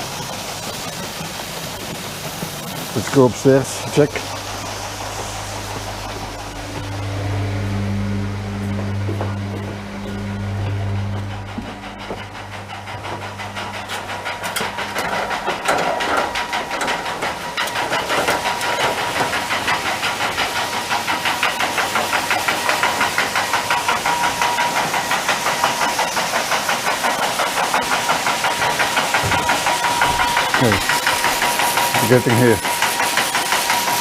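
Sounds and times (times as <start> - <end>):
machinery rattling: 0.0 - 34.0
steady whine: 0.5 - 34.0.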